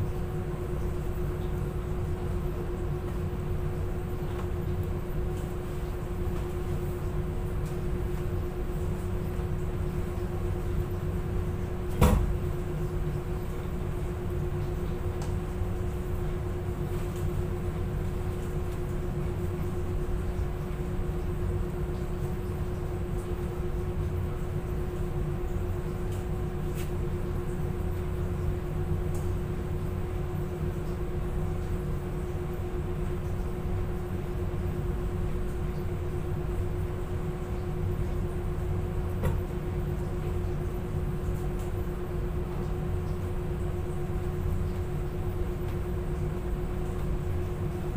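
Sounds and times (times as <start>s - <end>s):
laundry machinery humming: 0.0s - 47.9s.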